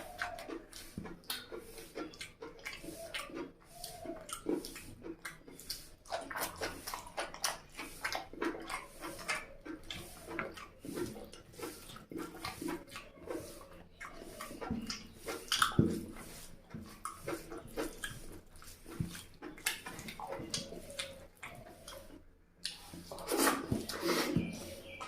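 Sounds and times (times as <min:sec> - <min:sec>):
person chewing and smacking: 0:00.0 - 0:25.0.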